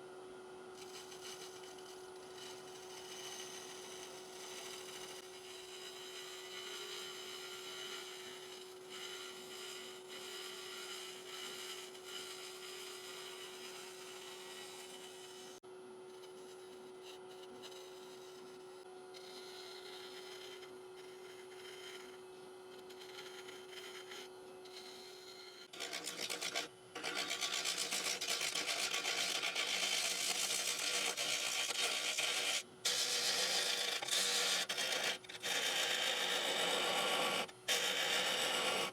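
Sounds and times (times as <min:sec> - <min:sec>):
gouge cutting spinning wood: 0:00.8 - 0:15.6, 0:16.2 - 0:38.9
wood lathe humming: 0:02.4 - 0:15.6, 0:16.2 - 0:38.9.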